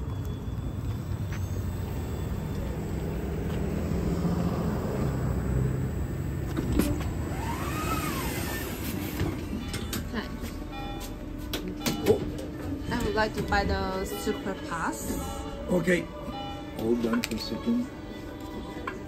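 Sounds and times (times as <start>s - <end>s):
bus door mechanism whine: 0.0s - 17.6s
bus engine rumbling: 0.0s - 18.8s.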